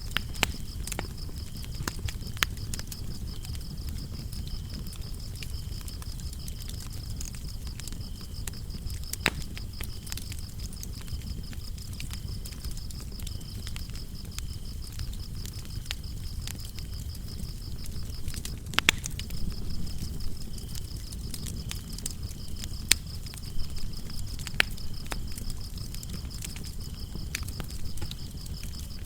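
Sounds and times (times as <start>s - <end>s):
crickets chirping: 0.0s - 29.0s
lower cricket trill: 0.0s - 29.0s
wood fire crackling: 0.0s - 29.0s.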